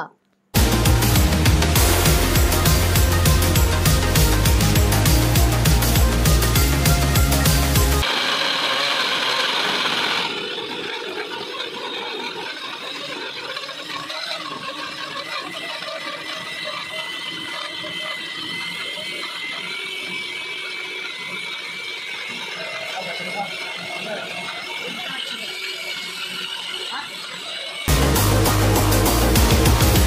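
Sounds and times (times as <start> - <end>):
blender motor whining: 0.6 - 30.0.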